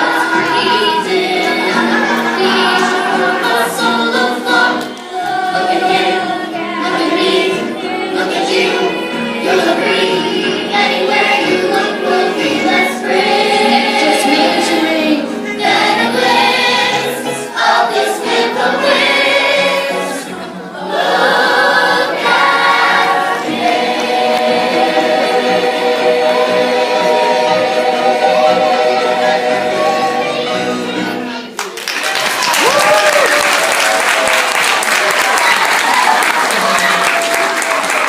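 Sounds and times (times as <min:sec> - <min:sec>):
voices singing together: 0:00.0 - 0:31.5
musical accompaniment: 0:00.0 - 0:38.0.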